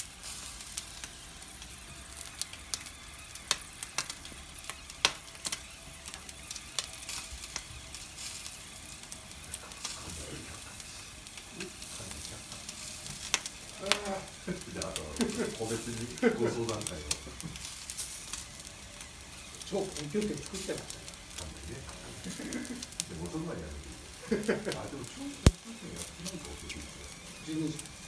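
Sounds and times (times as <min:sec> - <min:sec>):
sharp crackles and pops: 0:00.0 - 0:28.0
skewers sizzling over charcoal: 0:00.0 - 0:28.0.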